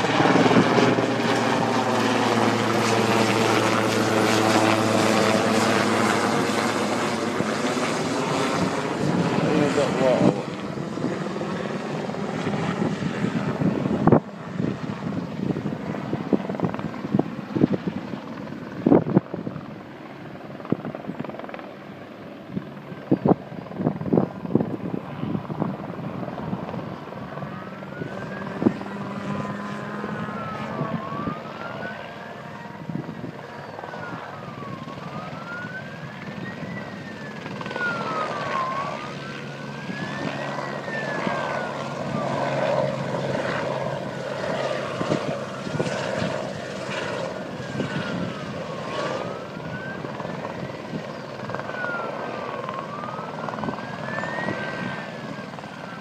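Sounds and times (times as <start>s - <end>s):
emergency vehicle siren wailing: 0.0s - 18.0s, 23.8s - 56.0s
aircraft drone: 0.0s - 56.0s.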